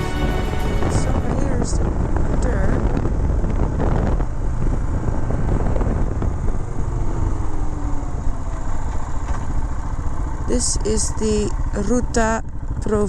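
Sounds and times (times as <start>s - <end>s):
wind rumble on microphone: 0.0s - 13.0s
motorcycle engine running: 1.5s - 13.0s.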